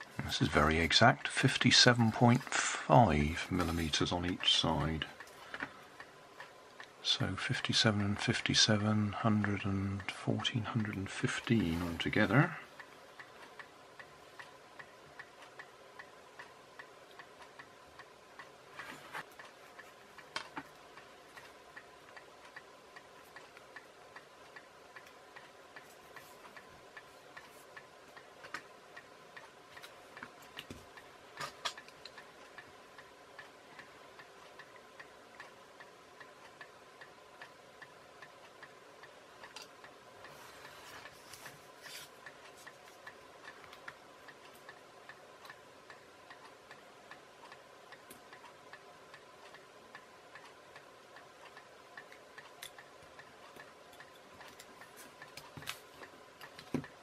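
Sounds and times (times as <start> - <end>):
faint ticking: 0.0 - 57.0
steady low hum: 0.0 - 57.0.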